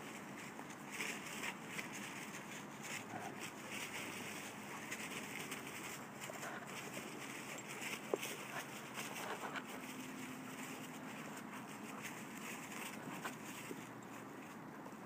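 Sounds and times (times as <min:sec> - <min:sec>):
dogs scuffling on dry leaves: 0:00.0 - 0:15.0.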